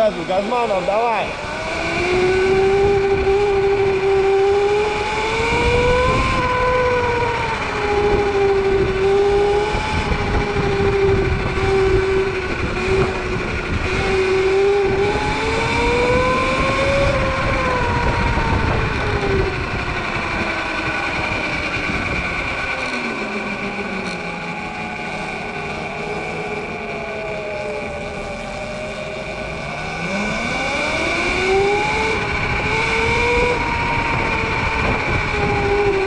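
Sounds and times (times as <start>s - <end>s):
electric motorbike motor whining: 0.0s - 36.0s
steady rushing noise: 0.0s - 36.0s.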